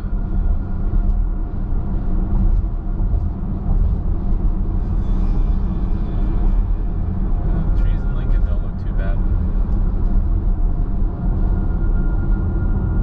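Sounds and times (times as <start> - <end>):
car road and tyre rumble: 0.0 - 13.0.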